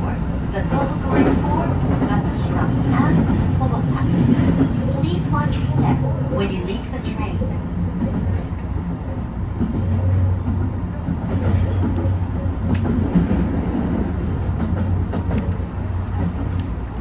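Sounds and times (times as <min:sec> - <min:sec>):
train running hum and rumble: 0:00.0 - 0:17.0.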